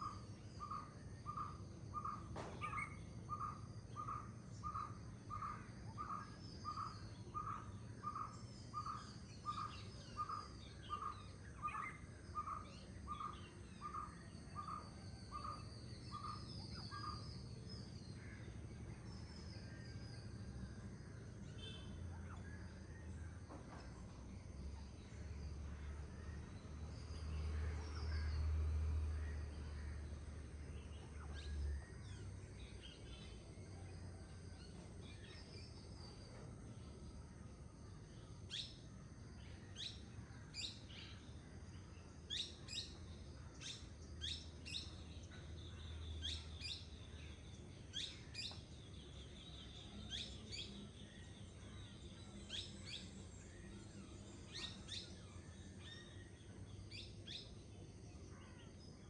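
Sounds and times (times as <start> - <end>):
forest birds singing: 0.0 - 59.0.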